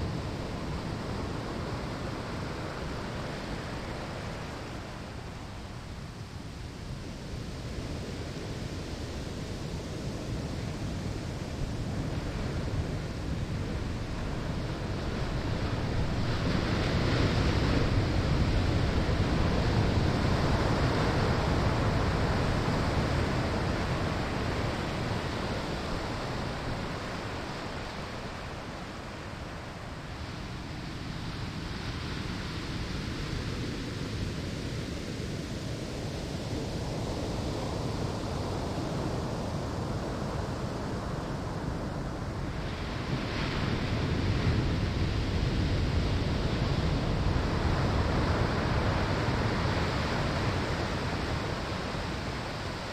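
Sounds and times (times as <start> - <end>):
ocean waves on sand: 0.0 - 52.9.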